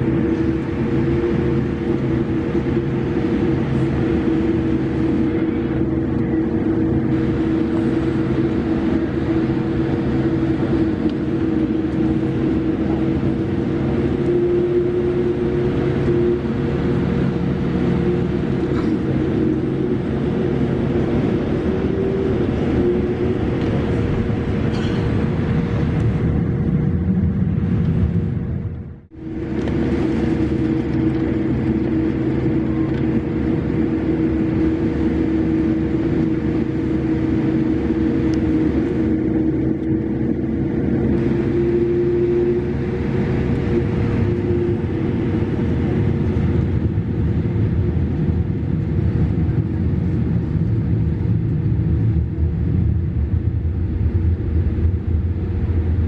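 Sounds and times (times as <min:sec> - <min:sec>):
aircraft cabin hum: 0:00.0 - 0:56.0
steady whining tones: 0:00.0 - 0:56.0.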